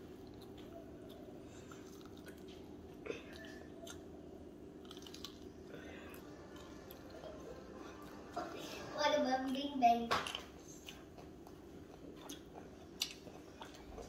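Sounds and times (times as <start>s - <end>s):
child chewing crunchy food: 0.0s - 14.0s
steady low hum: 0.0s - 14.0s.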